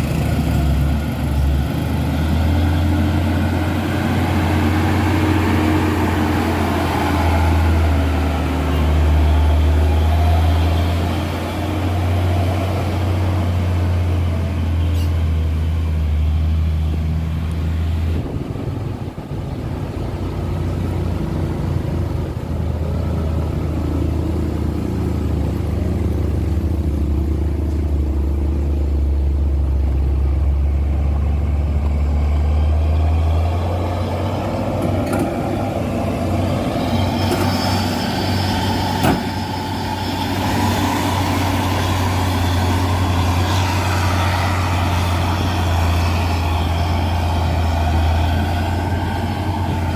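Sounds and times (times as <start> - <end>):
truck diesel engine droning: 0.0 - 49.9.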